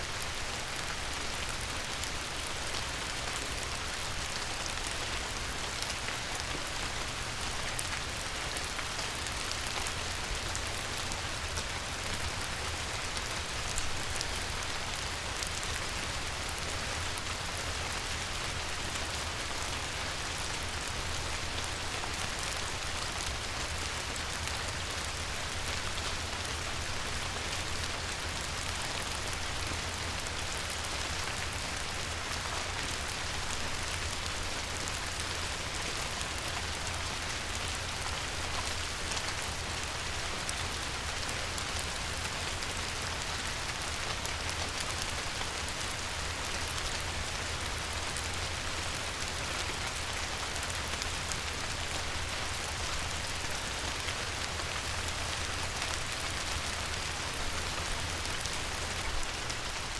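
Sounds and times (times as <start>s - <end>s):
light rain on a river: 0.0s - 59.9s.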